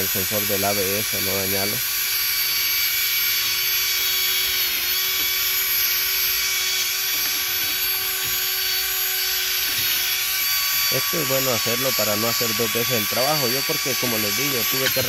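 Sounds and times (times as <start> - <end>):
drill wire brush scrubbing rust: 0.0 - 15.0.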